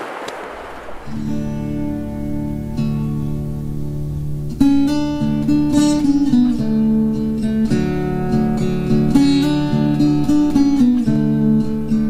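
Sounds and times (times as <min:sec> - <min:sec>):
acoustic guitar strumming chords: 0:00.6 - 0:12.0.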